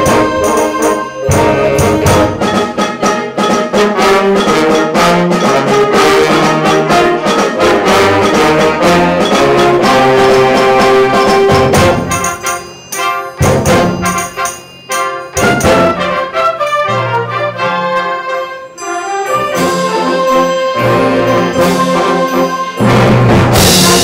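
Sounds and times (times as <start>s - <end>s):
brass and woodwind chords: 0.0s - 24.0s
percussion strikes: 0.0s - 24.0s.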